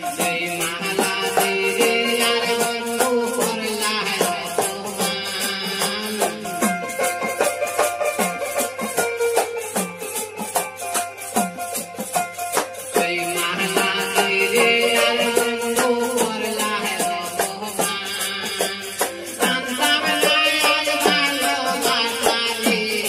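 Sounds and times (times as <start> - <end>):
hand drum strokes: 0.0 - 23.0
person singing: 0.0 - 23.0
plucked string instrument: 0.0 - 23.0
rattle clicking beat: 0.0 - 23.0.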